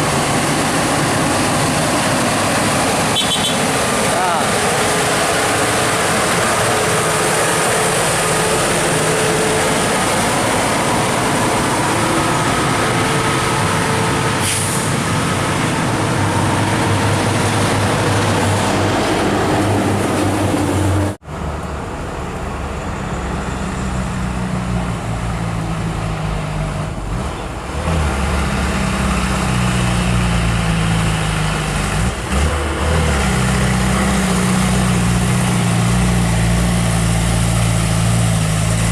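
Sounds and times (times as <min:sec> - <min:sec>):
diesel truck engines labouring: 0:00.0 - 0:38.9
road noise: 0:00.0 - 0:38.9.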